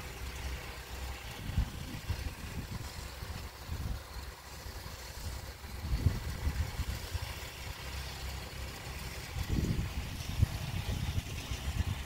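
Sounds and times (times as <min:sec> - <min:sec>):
snow blower engine rumbling: 0:00.0 - 0:12.0.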